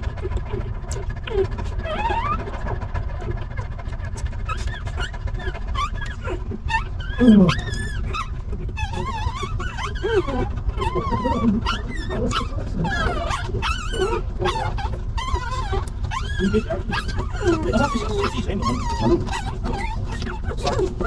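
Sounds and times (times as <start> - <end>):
puppies squealing and whimpering: 0.0 - 21.0
steady low rumble: 0.0 - 21.0.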